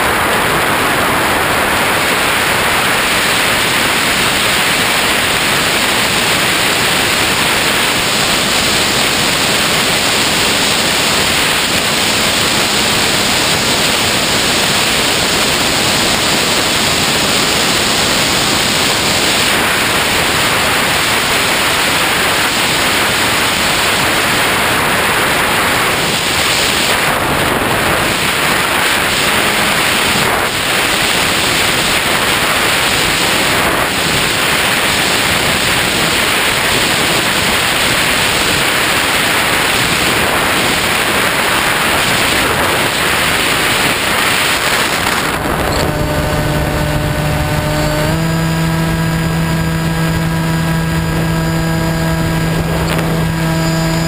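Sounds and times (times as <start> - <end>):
wind noise on microphone: 0.0 - 54.0.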